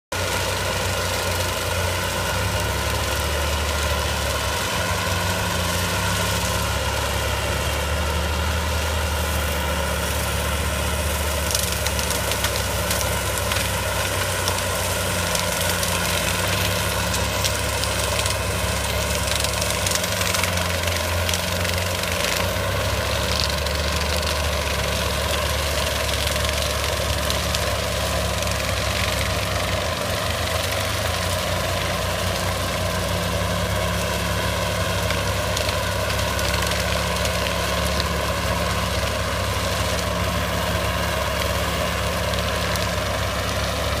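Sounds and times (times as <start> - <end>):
tracked vehicle mowing grass: 0.0 - 44.0.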